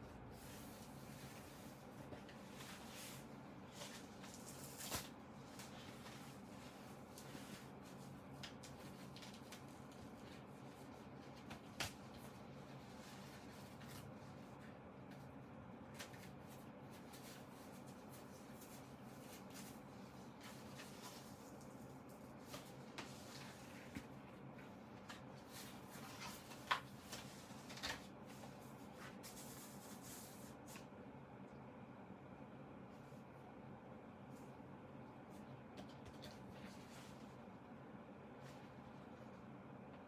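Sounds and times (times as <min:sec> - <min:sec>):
steady low hum: 0:00.0 - 0:40.0
rustling handling noises: 0:00.3 - 0:31.0, 0:35.2 - 0:37.6.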